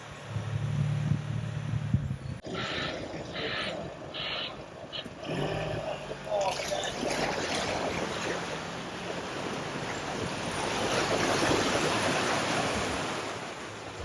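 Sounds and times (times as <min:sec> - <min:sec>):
rushing splashing water: 0:02.4 - 0:14.0.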